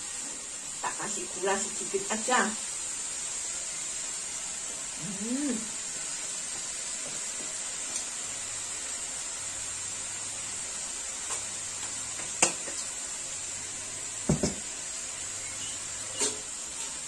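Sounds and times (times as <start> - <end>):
greens frying in a wok: 0.0 - 17.0.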